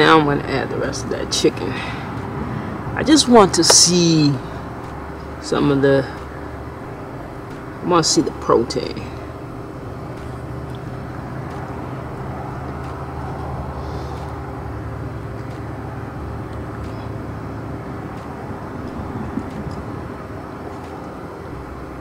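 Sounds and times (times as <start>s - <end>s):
fan motor humming and rushing: 0.0s - 22.0s.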